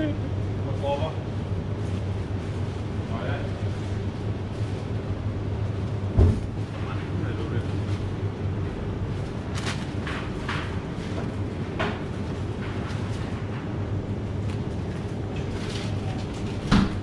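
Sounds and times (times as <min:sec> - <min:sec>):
refrigerated display case humming: 0:00.0 - 0:17.0.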